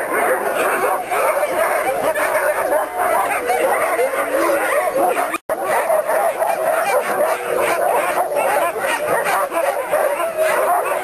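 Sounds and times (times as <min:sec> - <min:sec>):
dogs yipping and barking: 0:00.0 - 0:11.0.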